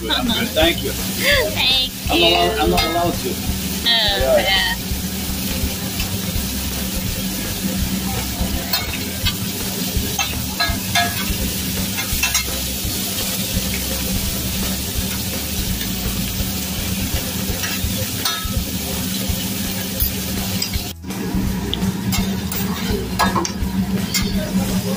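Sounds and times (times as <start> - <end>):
food sizzling on a griddle: 0.0 - 24.9.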